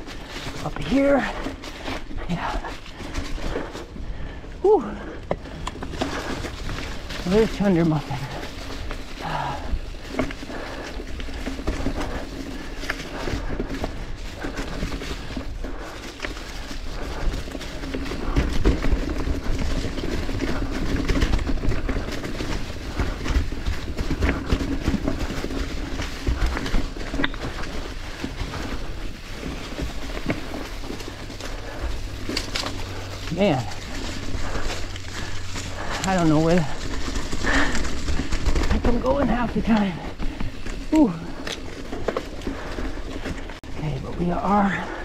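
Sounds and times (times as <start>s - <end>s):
bike knocks and rattles: 0.0s - 43.8s
bike tyres crunching over ground: 0.0s - 45.0s.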